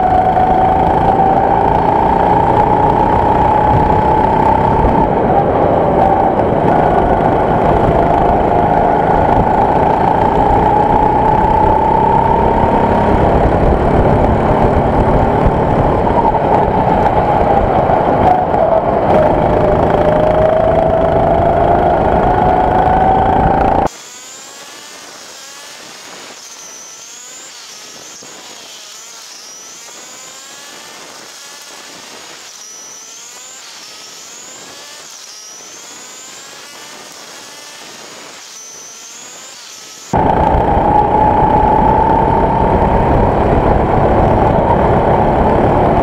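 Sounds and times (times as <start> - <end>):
go-kart engine accelerating: 0.0 - 46.0
thin engine whine with pitch sweeps: 0.0 - 46.0.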